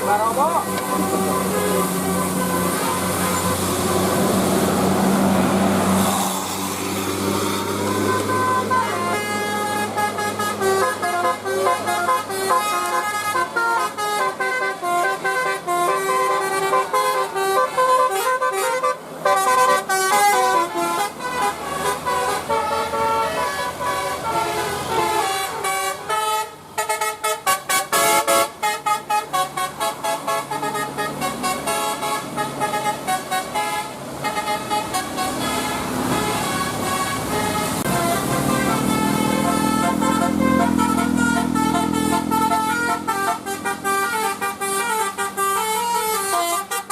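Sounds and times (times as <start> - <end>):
bus horns playing a tune: 0.0 - 46.9
short staccato horn toots: 7.9 - 46.9.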